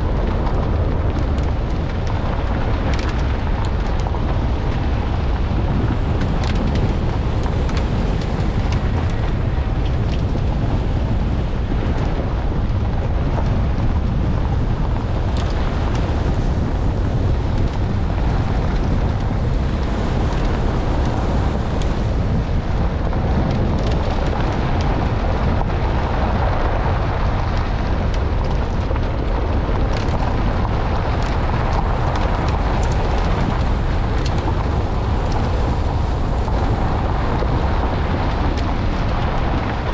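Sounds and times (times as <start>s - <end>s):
vehicle driving on gravel: 0.0s - 39.9s
wind on microphone: 0.0s - 39.9s.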